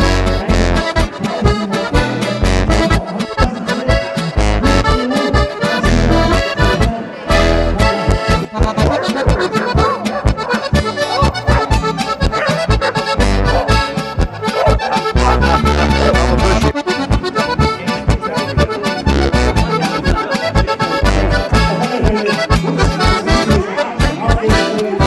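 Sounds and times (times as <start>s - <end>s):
folk music led by accordion: 0.0s - 25.0s.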